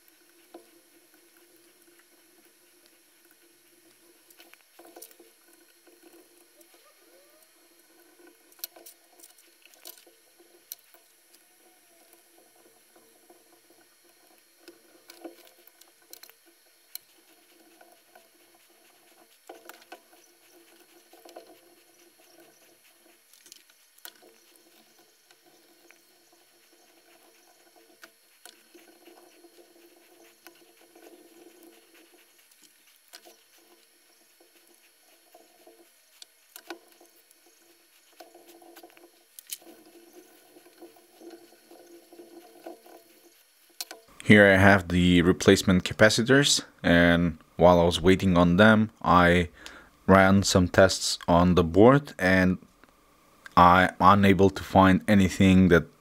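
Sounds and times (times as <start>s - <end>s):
room hiss: 0.0s - 56.0s.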